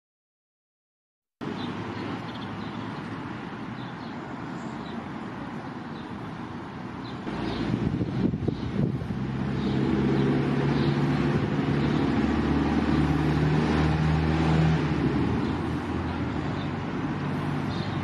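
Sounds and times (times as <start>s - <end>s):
outdoor noise rushing: 1.4s - 18.0s.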